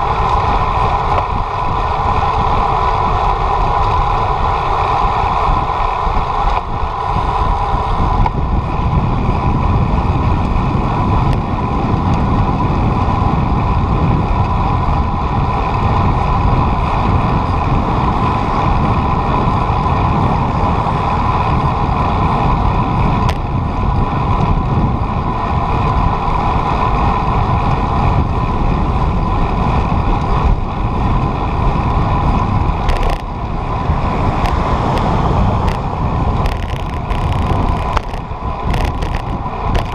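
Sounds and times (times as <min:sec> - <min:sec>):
vehicle engine drone: 0:00.0 - 0:39.9
wind rush: 0:00.0 - 0:39.9.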